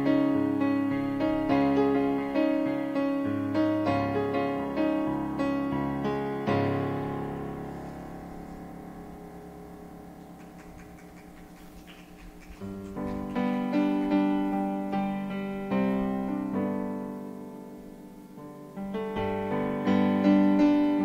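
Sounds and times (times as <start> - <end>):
electric piano chords: 0.0 - 21.0.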